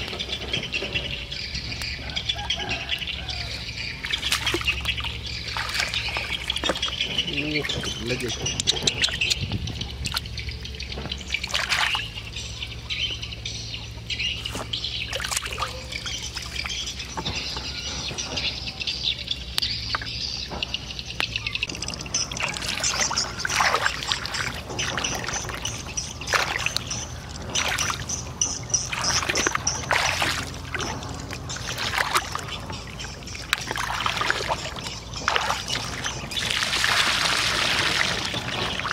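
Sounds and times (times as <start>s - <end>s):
legs wading through water: 0.0s - 38.9s
water splashing and trickling: 0.0s - 38.9s
water dripping: 1.7s - 12.4s, 14.5s - 17.3s, 19.5s - 38.9s.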